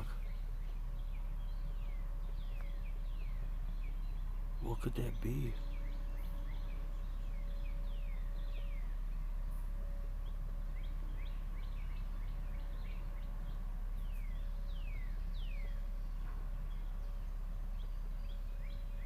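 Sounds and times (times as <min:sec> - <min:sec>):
birds whistling: 0:00.0 - 0:19.0
low outdoor rumble: 0:00.0 - 0:19.0.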